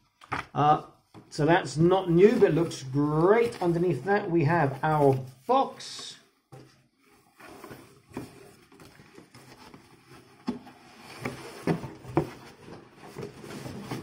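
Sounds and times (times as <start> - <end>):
cardboard rustling and scraping: 1.0 - 5.9, 6.5 - 14.0.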